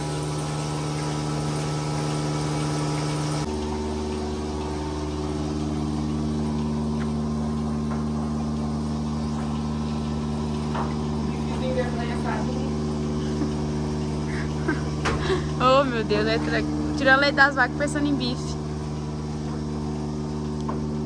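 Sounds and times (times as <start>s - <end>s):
vacuum pump humming: 0.0s - 21.0s.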